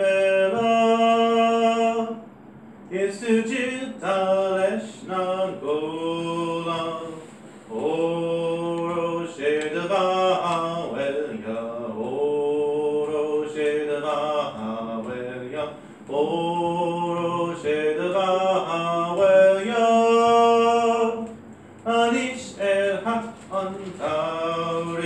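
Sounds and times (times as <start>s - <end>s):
man singing unaccompanied: 0.0s - 2.2s, 2.9s - 25.0s.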